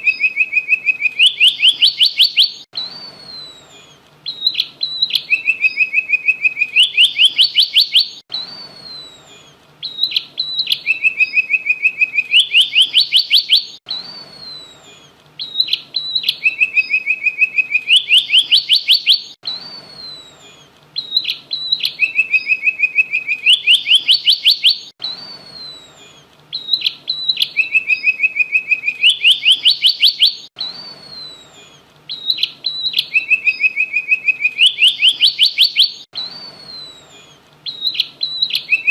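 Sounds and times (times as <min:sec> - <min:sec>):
bird singing trilling song: 0:00.0 - 0:38.9.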